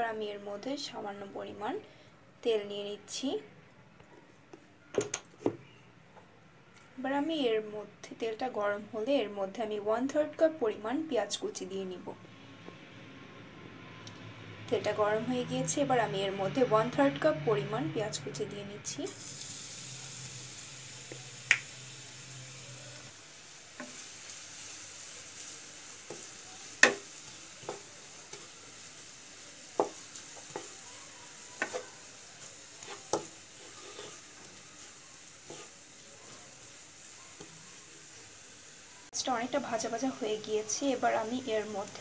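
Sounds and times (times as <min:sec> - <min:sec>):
onions sizzling in oil: 0:07.5 - 0:13.4, 0:14.0 - 0:42.0.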